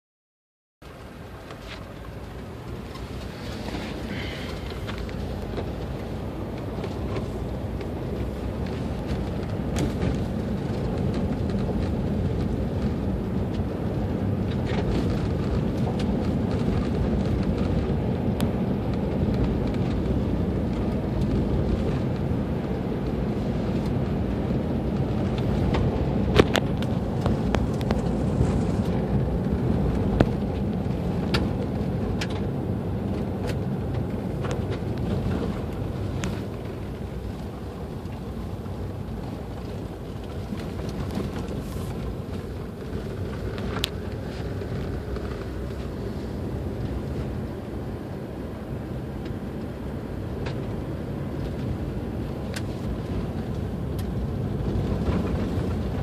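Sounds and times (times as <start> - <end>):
engine and tyre rumble on gravel: 0.8 - 56.0.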